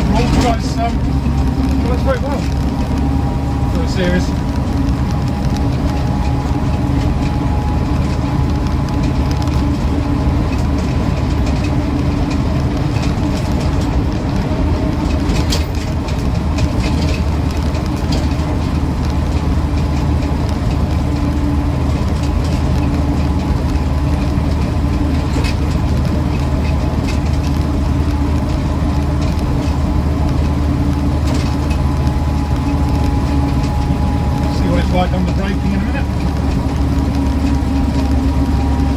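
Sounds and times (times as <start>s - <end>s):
car engine running: 0.0s - 38.9s
drivetrain and road noise: 0.0s - 38.9s.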